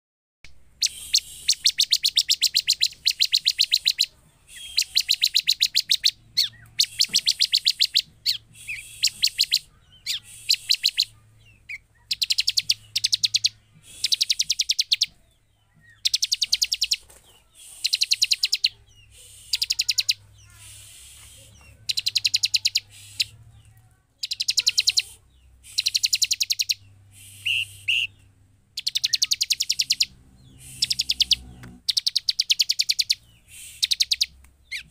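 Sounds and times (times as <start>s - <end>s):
bird singing rapid ticking notes: 0.8s - 15.2s, 15.8s - 17.0s, 17.8s - 21.1s, 21.7s - 23.3s, 24.2s - 34.9s.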